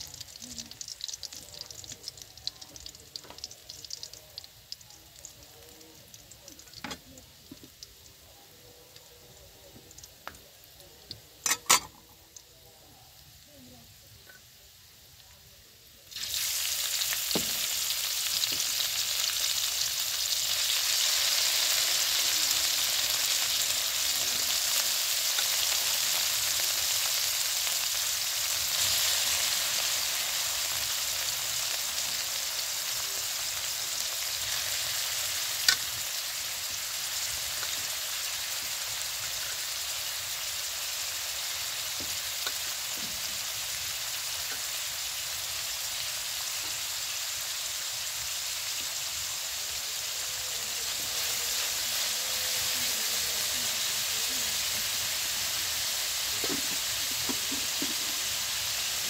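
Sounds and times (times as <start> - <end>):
meat sizzling in a wok: 0.0 - 59.0.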